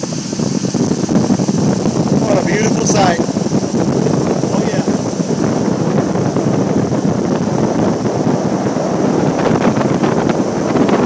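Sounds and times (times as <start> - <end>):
boat motor running: 0.0 - 11.0
wind rushing over microphone: 0.0 - 11.0.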